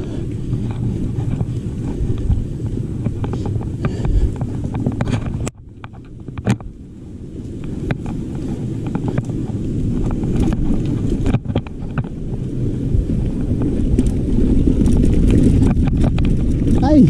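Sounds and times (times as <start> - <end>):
bike rattling on trail: 0.0 - 17.0
wind buffeting microphone: 0.0 - 17.0.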